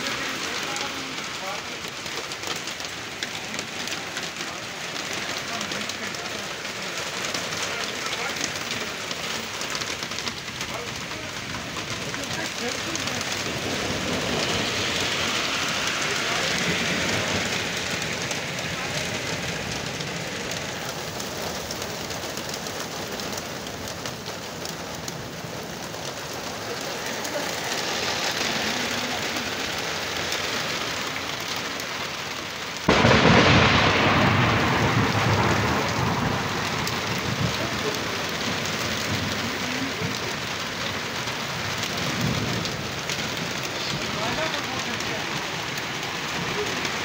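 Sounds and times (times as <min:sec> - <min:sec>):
heavy rain falling: 0:00.0 - 0:47.0
thunderclap rumbling: 0:00.0 - 0:47.0.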